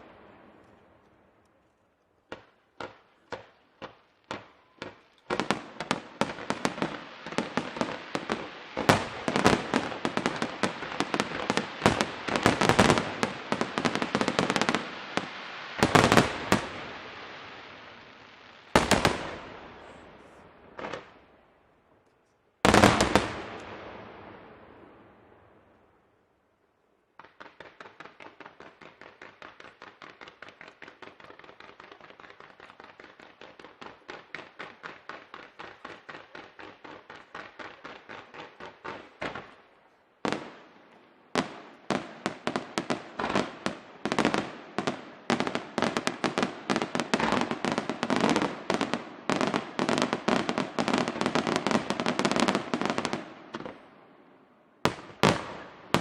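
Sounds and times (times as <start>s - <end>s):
fireworks banging: 2.2s - 21.3s, 22.6s - 24.6s, 27.2s - 39.6s, 40.2s - 53.9s, 54.9s - 56.0s.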